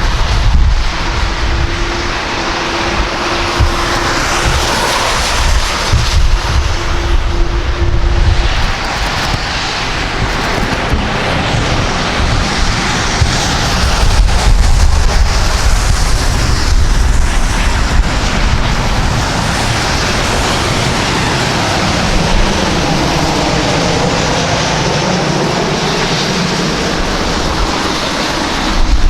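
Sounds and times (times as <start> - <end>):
airliner engines: 0.0 - 29.0
wind rumbling on microphone: 0.0 - 29.0.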